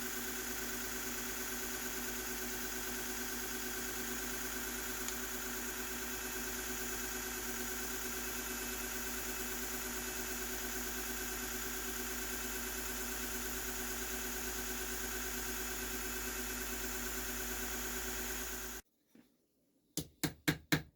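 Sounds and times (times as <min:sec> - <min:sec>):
belt sander running: 0:00.0 - 0:18.8.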